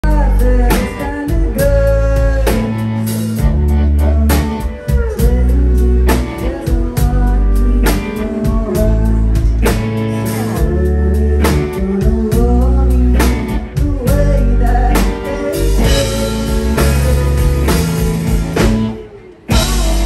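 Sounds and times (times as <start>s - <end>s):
bass: 0.0s - 20.0s
drum kit beat: 0.0s - 20.0s
electric guitars: 0.0s - 20.0s
live band playing: 0.0s - 20.0s.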